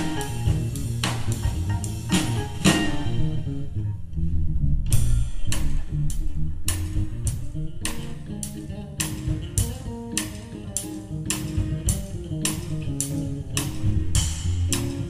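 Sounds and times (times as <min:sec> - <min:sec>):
live band instrumental: 0:00.0 - 0:03.7, 0:05.0 - 0:15.0.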